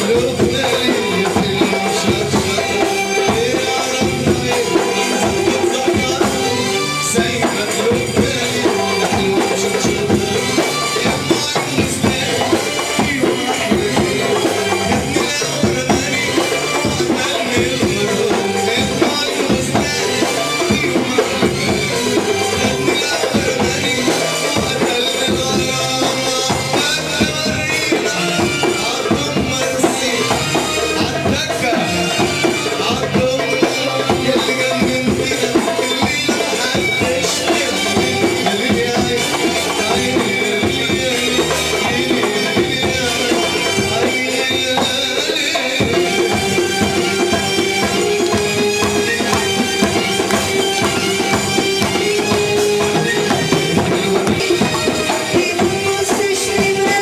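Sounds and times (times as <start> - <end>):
belly-dance band music: 0.0 - 57.0
steady drum beat: 0.0 - 57.0.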